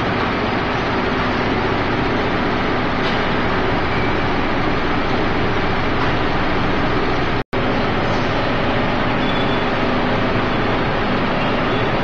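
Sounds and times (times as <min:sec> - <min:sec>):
low motor hum: 0:00.0 - 0:12.0
vibrating screen machine running: 0:00.0 - 0:12.0.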